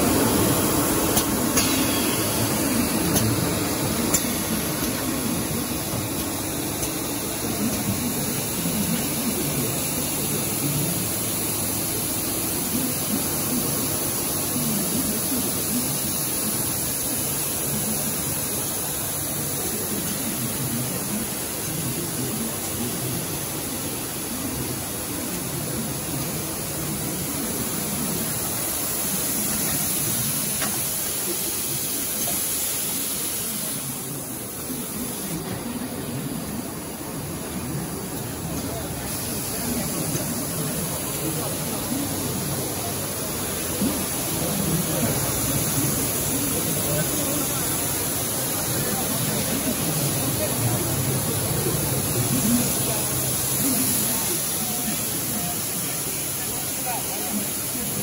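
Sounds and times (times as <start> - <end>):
constant hiss: 0.0 - 58.0
conveyor running: 0.0 - 58.0.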